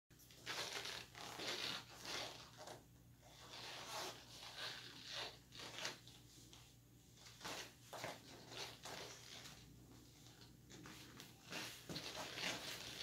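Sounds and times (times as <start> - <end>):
clothing rustling: 0.2 - 13.0.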